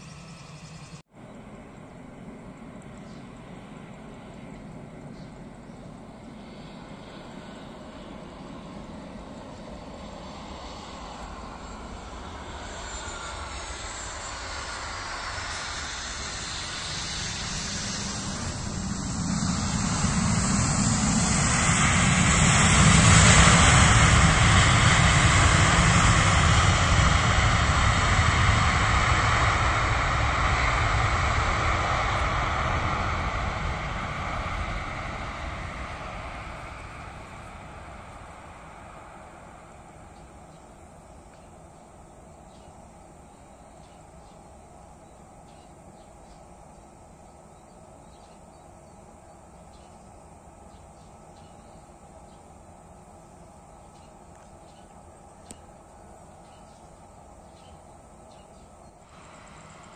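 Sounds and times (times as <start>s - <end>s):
jet engines roaring: 0.0s - 59.9s
sweeping phasing hiss: 0.0s - 59.9s.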